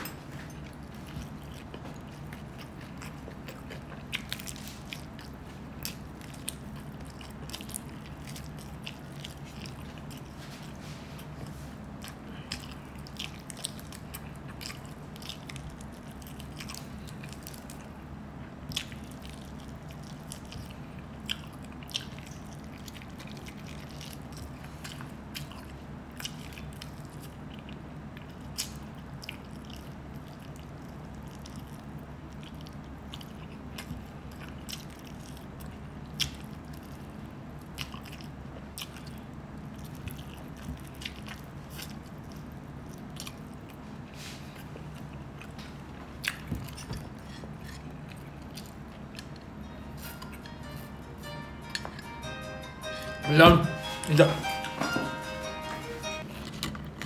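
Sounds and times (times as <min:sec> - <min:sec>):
person chewing food: 0:00.0 - 0:53.2, 0:53.9 - 0:57.0.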